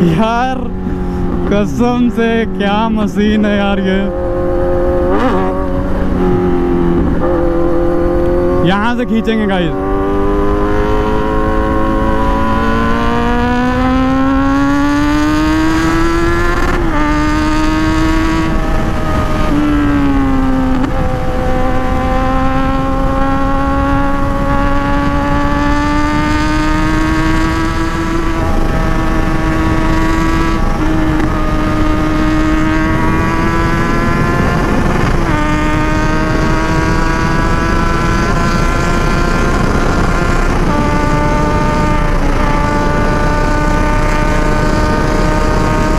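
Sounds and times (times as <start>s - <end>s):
motorcycle engine accelerating: 0.0s - 45.9s
wind rushing over microphone: 0.0s - 45.9s.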